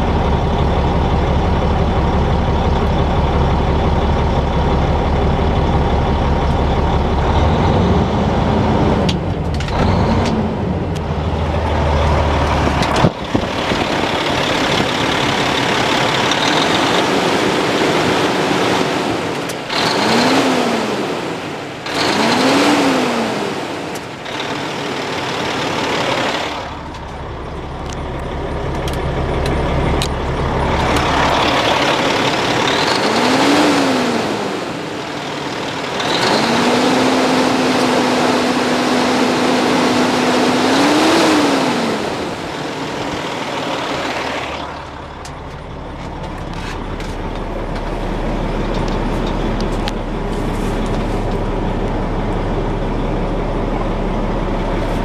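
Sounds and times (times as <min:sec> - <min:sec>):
diesel truck engine revving and idling: 0:00.0 - 0:55.0.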